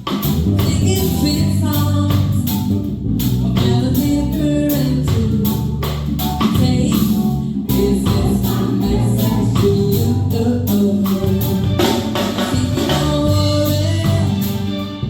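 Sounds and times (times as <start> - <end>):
live reggae band: 0.0 - 15.0
woman singing: 0.6 - 2.6, 3.4 - 14.6.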